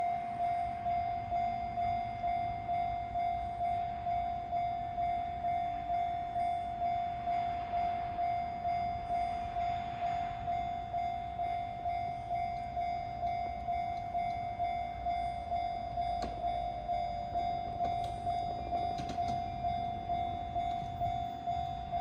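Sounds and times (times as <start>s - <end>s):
level crossing bell clanging: 0.6s - 22.0s.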